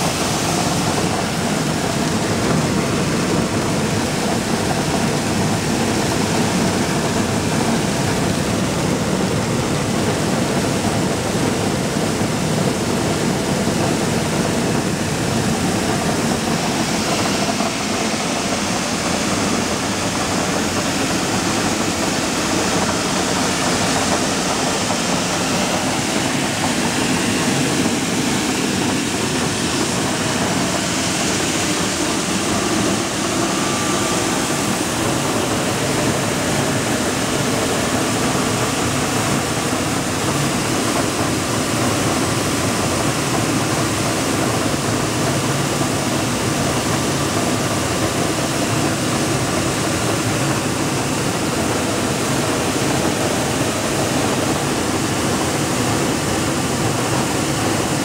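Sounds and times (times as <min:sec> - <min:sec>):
flour mill running: 0:00.0 - 0:58.0.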